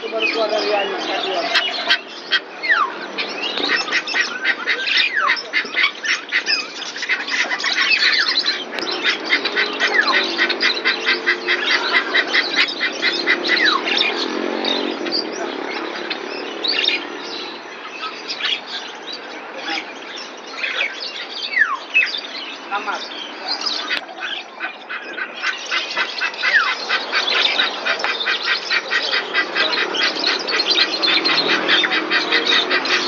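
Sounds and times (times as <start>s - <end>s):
caged birds chirping: 0.0s - 33.0s.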